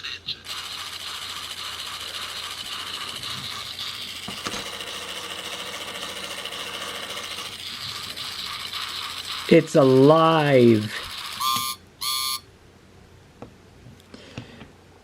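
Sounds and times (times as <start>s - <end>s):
toy train motor whirring: 0.0s - 12.4s.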